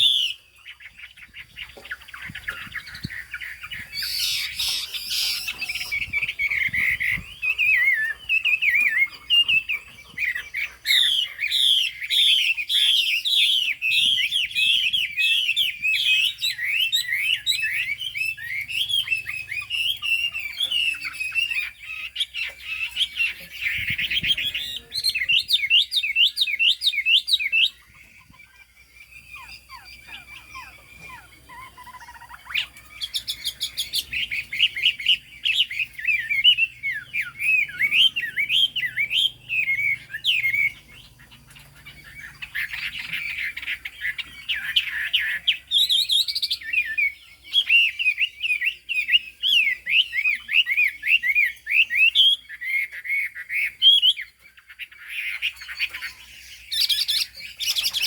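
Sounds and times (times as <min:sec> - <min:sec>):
songbird singing fast song: 0:00.0 - 0:58.0.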